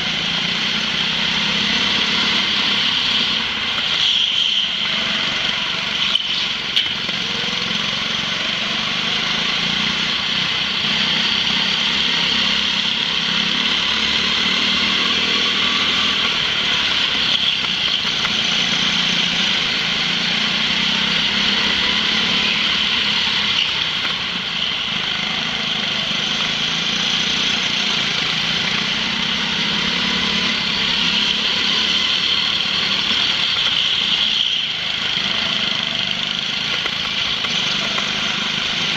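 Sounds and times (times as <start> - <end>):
go-kart engine running: 0.0 - 38.9
other karts: 0.0 - 38.9.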